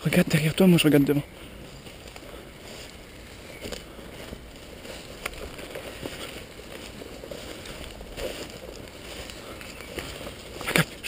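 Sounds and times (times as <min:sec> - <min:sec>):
footsteps through undergrowth: 0:00.0 - 0:11.0.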